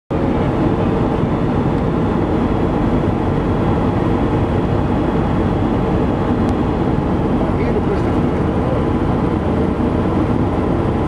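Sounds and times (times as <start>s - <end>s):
propeller plane engine drone: 0.1s - 11.0s.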